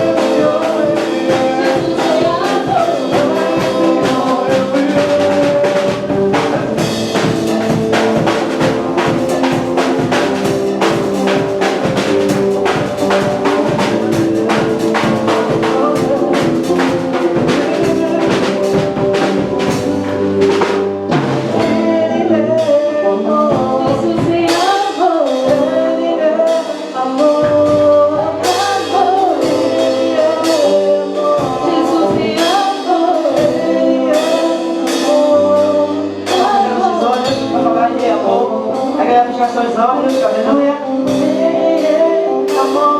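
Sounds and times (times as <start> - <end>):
band music: 0.0 - 42.9
brass or keyboard chords: 0.0 - 42.9
drum kit beat: 0.0 - 42.9
person singing: 0.0 - 42.9.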